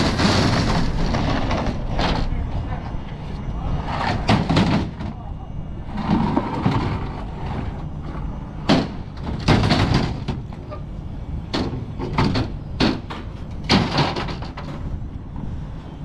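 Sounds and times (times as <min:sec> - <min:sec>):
heavy equipment bangs and clatters: 0:00.0 - 0:03.2, 0:03.8 - 0:05.2, 0:05.8 - 0:10.8, 0:11.4 - 0:14.9
steady low rumble: 0:00.0 - 0:16.0.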